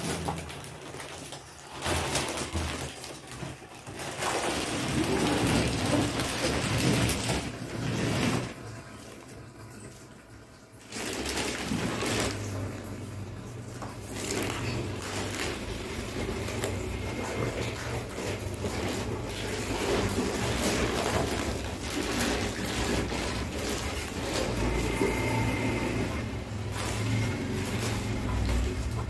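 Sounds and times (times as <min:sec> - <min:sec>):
plastic wrapping crinkling: 0:00.0 - 0:09.2, 0:10.8 - 0:29.0.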